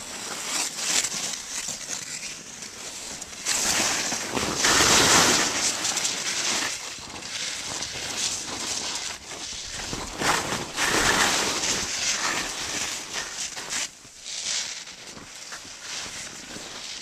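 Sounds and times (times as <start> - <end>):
skis hissing through snow: 0.0 - 17.0.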